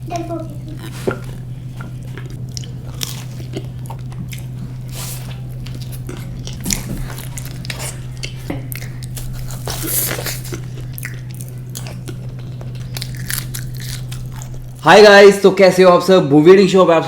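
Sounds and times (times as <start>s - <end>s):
steady low hum: 0.0s - 17.0s
crunchy chewing: 0.1s - 14.8s.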